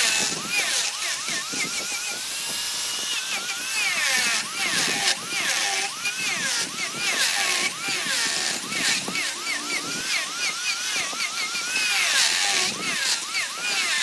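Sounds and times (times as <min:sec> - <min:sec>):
power tool motor whine: 0:00.0 - 0:14.0.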